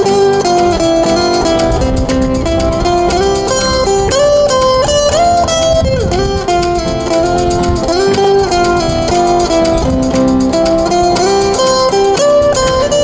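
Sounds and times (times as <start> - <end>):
acoustic guitars strumming: 0.0 - 13.0
melody of held notes: 0.0 - 13.0.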